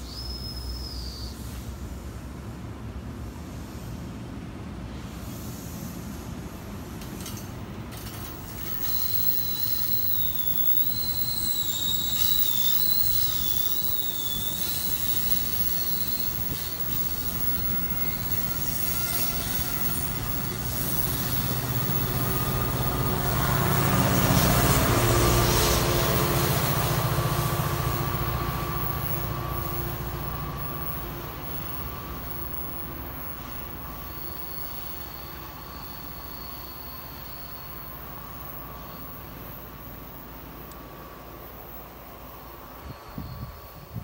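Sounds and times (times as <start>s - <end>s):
train wheel squeal: 0.0s - 2.0s, 6.9s - 44.0s
diesel locomotive engine: 0.0s - 44.0s
train cars running: 0.0s - 44.0s.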